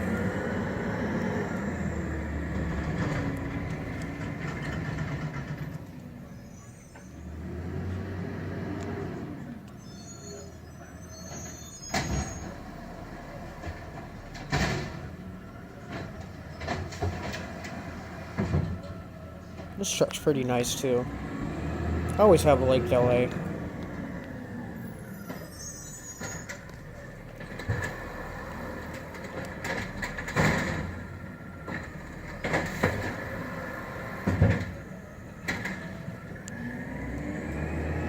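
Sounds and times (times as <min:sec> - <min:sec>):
garbage truck engine running: 0:00.0 - 0:38.0.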